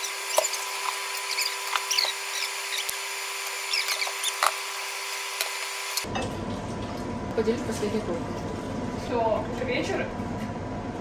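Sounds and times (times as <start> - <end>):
steady electric hum: 0.0 - 11.0.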